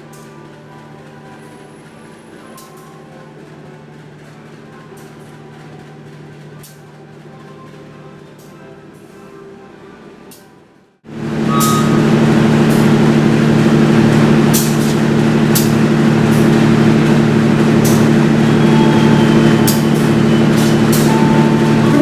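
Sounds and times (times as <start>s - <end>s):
train running close by: 0.0s - 10.4s, 11.1s - 22.0s.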